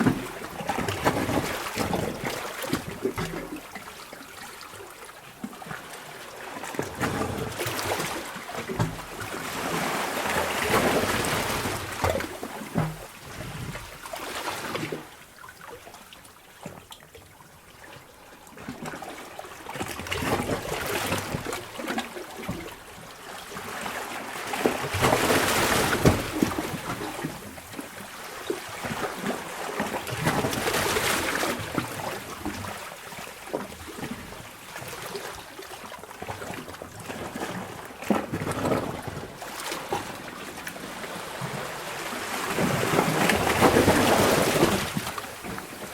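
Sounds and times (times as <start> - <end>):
sea water surging in a cave: 0.0 - 16.4, 17.8 - 45.9.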